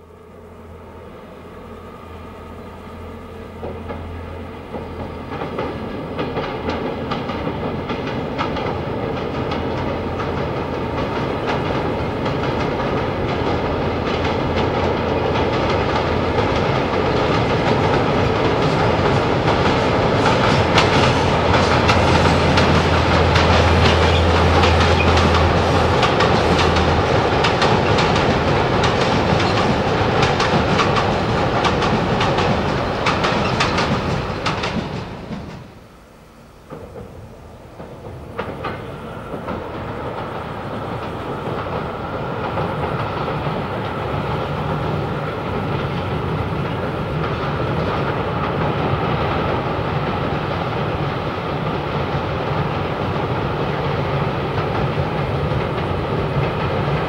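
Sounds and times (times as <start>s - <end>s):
locomotive low drone: 0.0s - 57.0s
wheels clattering over rail joints: 3.7s - 35.8s, 36.6s - 57.0s.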